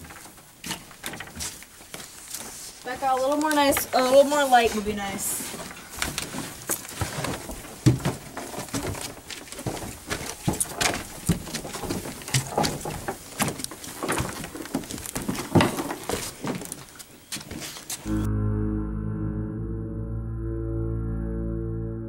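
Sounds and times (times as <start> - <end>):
footsteps on wooden stairs: 0.0 - 18.1.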